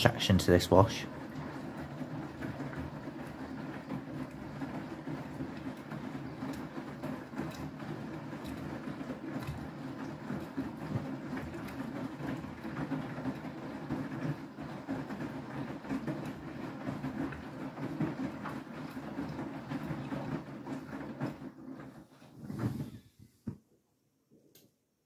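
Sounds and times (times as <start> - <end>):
washing machine drum rumbling: 0.0 - 23.0.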